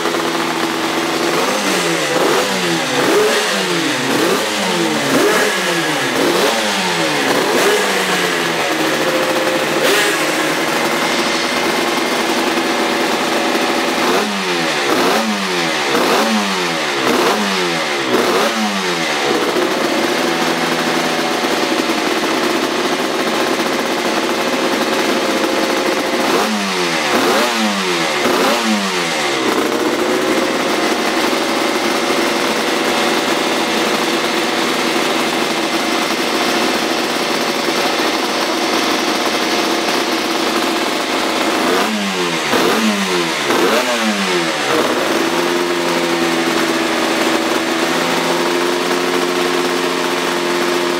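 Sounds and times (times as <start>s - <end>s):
engine revving blips: 0.0s - 22.0s, 24.8s - 36.4s, 40.5s - 50.3s
racing engine idling: 0.0s - 50.9s.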